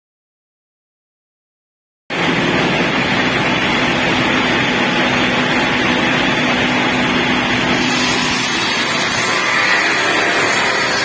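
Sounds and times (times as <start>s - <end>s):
circular saw machine running: 2.1s - 11.0s.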